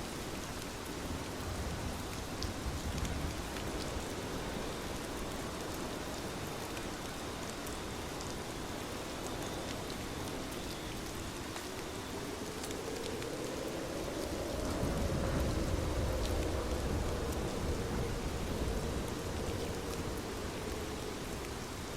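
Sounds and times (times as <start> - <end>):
steady rain hiss: 0.0 - 21.9
rain drop ticks: 0.4 - 21.6.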